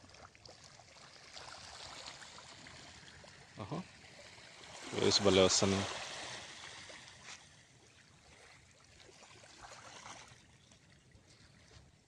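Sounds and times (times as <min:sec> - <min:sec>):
small waves lapping on sand: 0:00.0 - 0:12.0.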